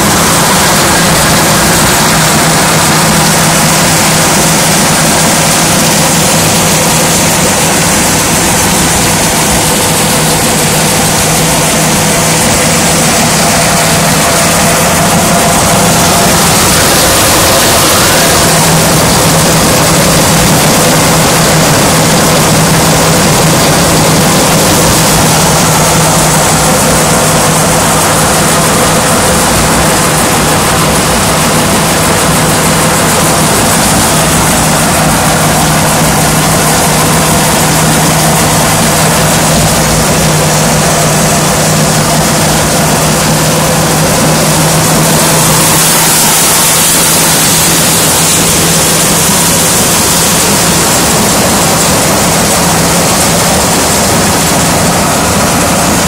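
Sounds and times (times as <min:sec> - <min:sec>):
threshing machine rushing: 0:00.0 - 0:56.0.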